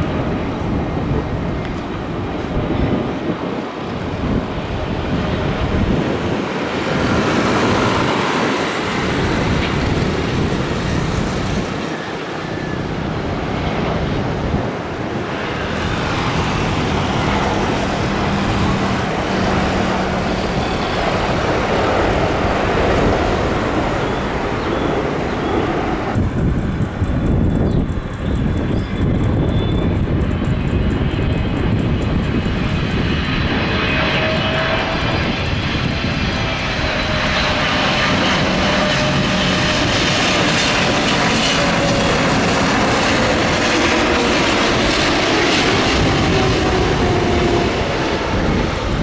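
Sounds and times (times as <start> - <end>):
jet airliner rushing noise: 0.0 - 49.0
wind on microphone: 0.0 - 49.0.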